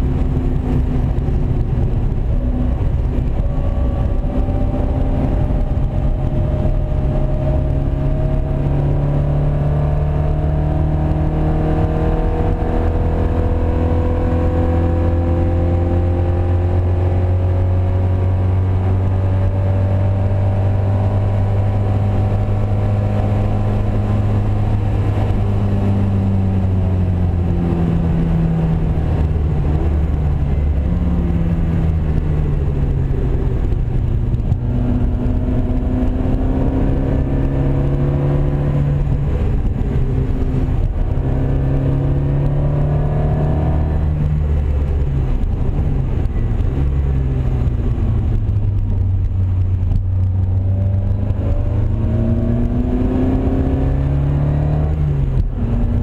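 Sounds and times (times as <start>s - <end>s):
racing car engine from cabin: 0.0s - 56.0s.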